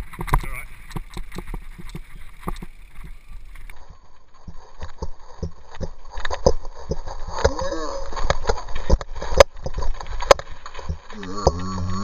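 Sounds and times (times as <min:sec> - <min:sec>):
mountain bike rattling and clattering: 0:00.0 - 0:11.2.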